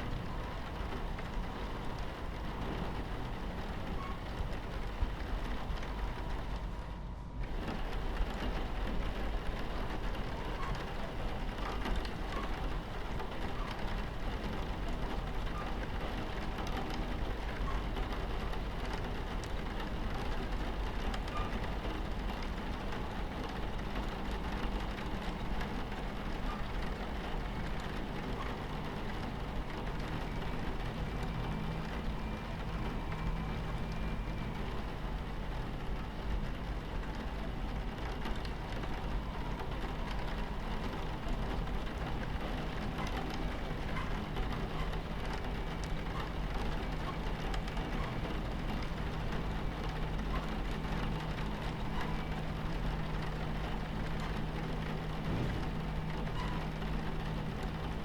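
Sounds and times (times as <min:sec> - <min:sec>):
rain pattering on window: 0:00.0 - 0:58.0
train rumbling on tracks: 0:00.0 - 0:58.0.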